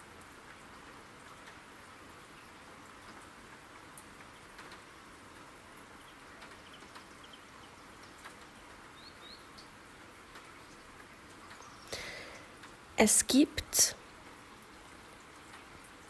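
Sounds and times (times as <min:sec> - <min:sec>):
raindrops ticking: 0:00.0 - 0:16.0
soft steady rain: 0:00.0 - 0:16.0.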